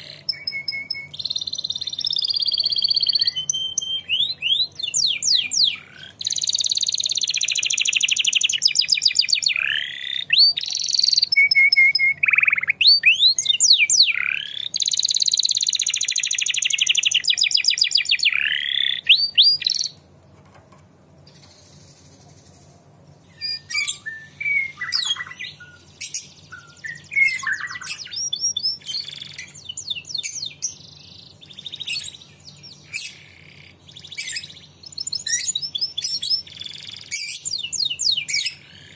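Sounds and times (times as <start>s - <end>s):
canary singing trills: 0.0s - 20.0s, 21.3s - 38.9s.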